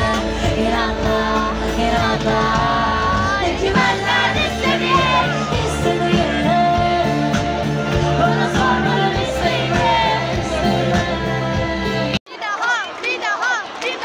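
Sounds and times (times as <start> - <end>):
steady drum beat: 0.0 - 11.8
person singing: 0.0 - 12.2
pop band playing: 0.0 - 12.2.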